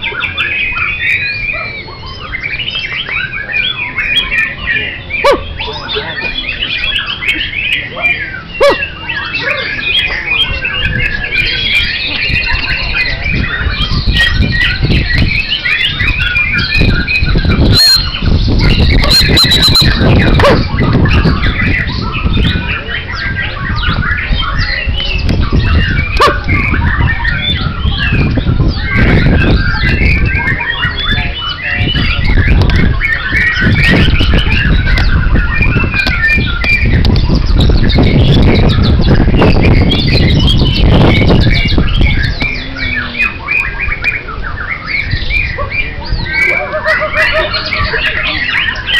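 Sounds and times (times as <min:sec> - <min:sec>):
songbirds chirping and whistling: 0:00.0 - 0:48.9.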